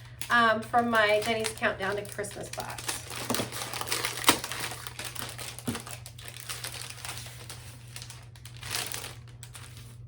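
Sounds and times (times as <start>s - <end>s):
packaging crinkling and rustling: 0.8s - 10.0s.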